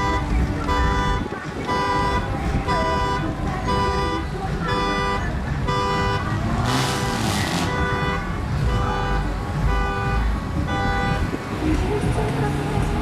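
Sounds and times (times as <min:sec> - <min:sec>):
musical car horn: 0:00.0 - 0:11.5
engines rumbling: 0:00.0 - 0:13.0.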